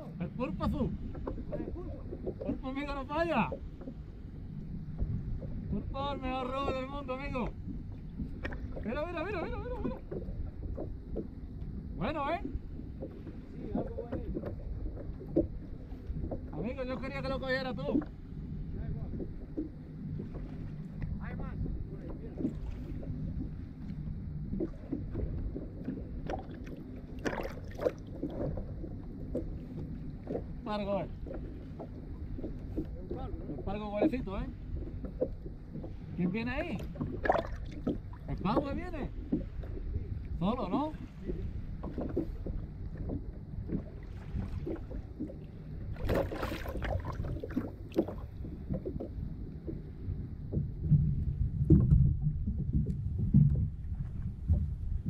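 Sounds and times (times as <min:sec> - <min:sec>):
water lapping against hull: 0:00.0 - 0:55.0
wind on microphone: 0:00.0 - 0:55.0.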